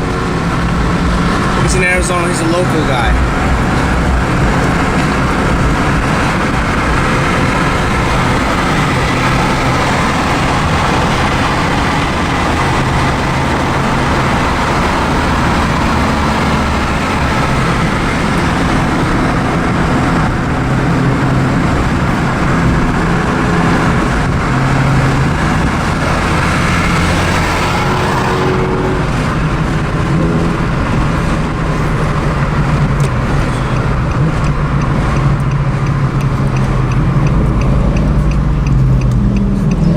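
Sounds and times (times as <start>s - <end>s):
car engine running: 0.0s - 39.9s
road and traffic noise: 0.0s - 39.9s.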